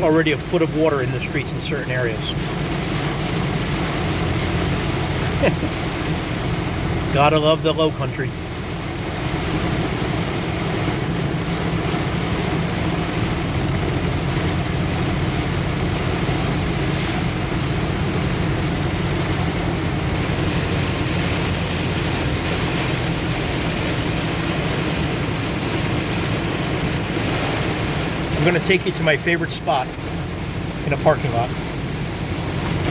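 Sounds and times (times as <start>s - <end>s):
heavy rain on truck roof: 0.0s - 32.9s
truck engine humming: 0.0s - 32.9s
tyres on wet road: 0.0s - 32.9s.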